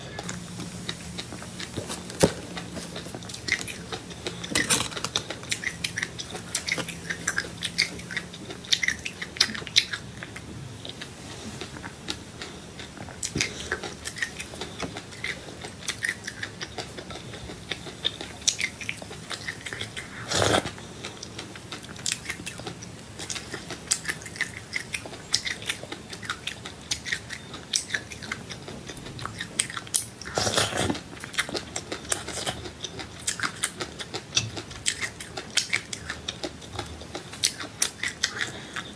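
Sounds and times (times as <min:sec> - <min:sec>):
person chewing crunchy seeds: 0:00.0 - 0:38.9.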